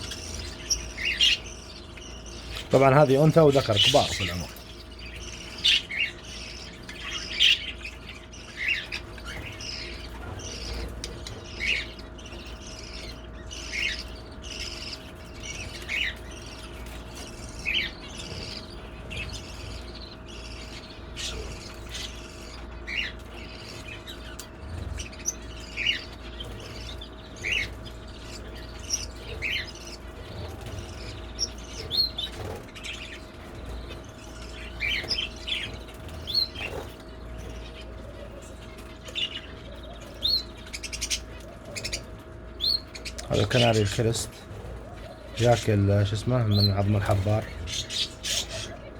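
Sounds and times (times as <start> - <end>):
small birds chirping: 0.0 - 48.9
steady faint hum: 0.0 - 48.9.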